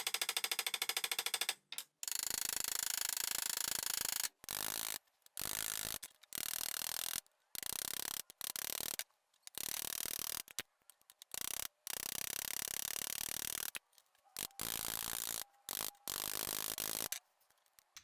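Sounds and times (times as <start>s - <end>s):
wrench ratcheting: 0.1s - 13.8s, 14.4s - 17.2s.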